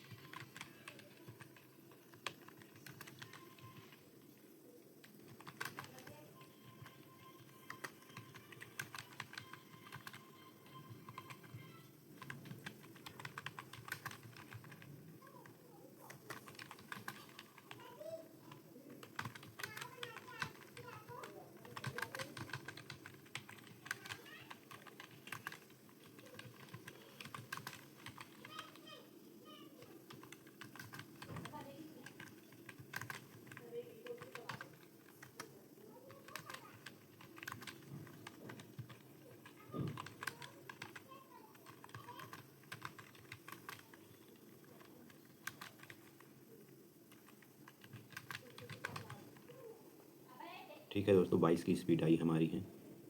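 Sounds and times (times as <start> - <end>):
typing on computer keyboard: 0.0 - 29.1, 29.7 - 49.6.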